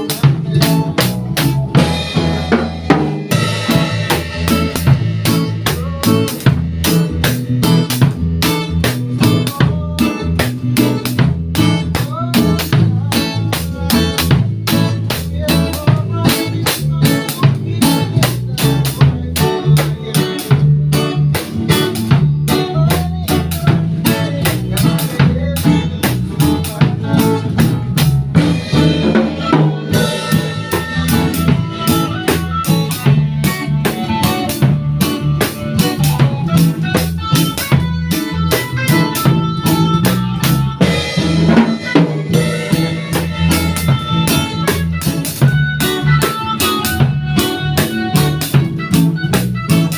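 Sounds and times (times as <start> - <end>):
bass line: 0.0 - 49.9.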